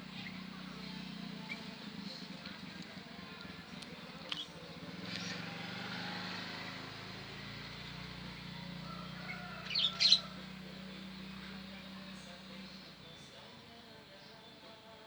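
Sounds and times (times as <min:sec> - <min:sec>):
vehicle passing: 0:00.0 - 0:13.2.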